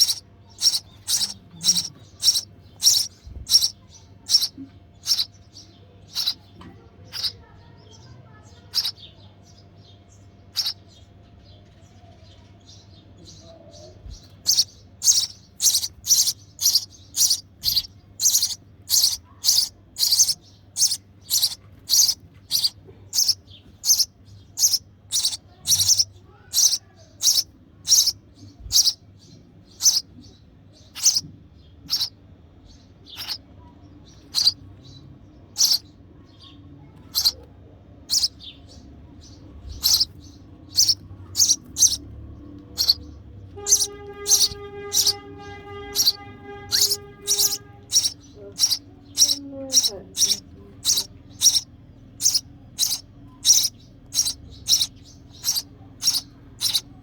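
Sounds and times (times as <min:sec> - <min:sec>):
nestling begging chirps: 0:00.0 - 0:06.5, 0:07.1 - 0:08.0, 0:08.7 - 0:09.0, 0:10.5 - 0:10.8, 0:14.0 - 0:30.1, 0:30.8 - 0:32.2, 0:33.0 - 0:33.4, 0:34.1 - 0:35.9, 0:37.1 - 0:37.4, 0:38.1 - 0:38.6, 0:39.2 - 0:57.0.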